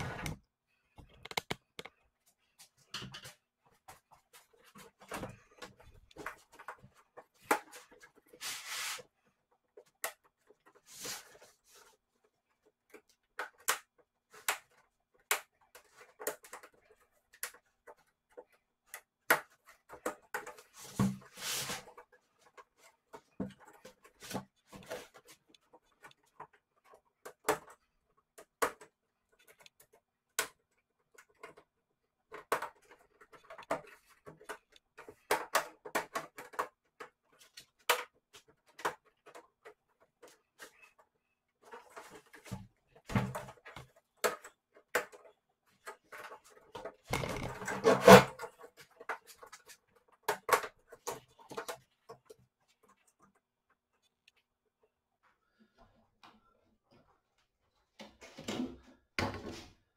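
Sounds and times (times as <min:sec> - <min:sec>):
plastic parts clicking and rubbing: 0:00.0 - 0:54.9.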